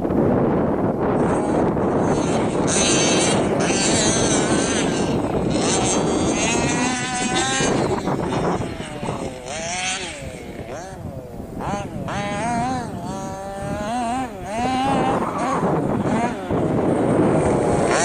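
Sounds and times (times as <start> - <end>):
wind buffeting microphone: 0.0 - 18.0
car engine running hard: 1.1 - 18.0.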